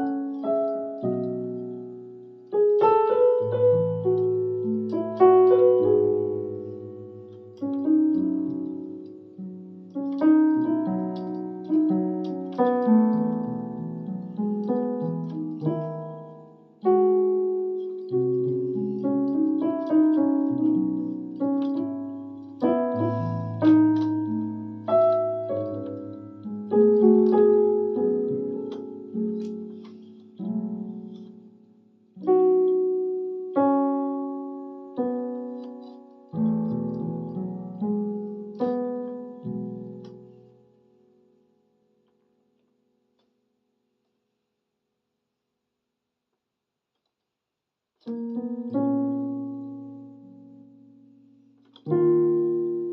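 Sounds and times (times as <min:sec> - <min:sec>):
electronic keyboard piano melody: 0:00.0 - 0:41.3, 0:48.0 - 0:52.9.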